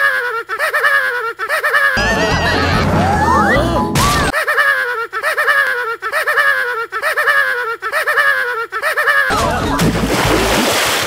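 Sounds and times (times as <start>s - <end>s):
cartoon character giggling: 0.0s - 9.8s.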